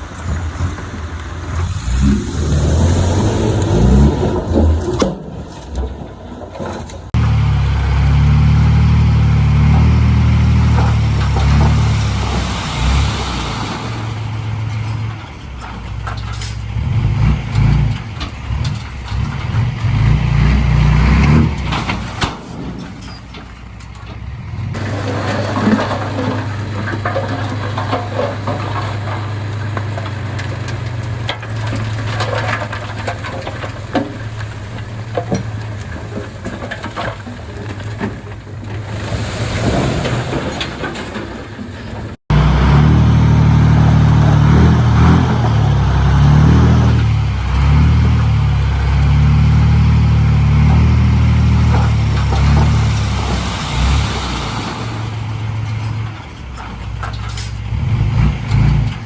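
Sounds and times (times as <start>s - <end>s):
heavy diesel engine running: 6.4s - 59.0s
metal clanks: 8.9s - 39.1s, 39.7s - 59.0s.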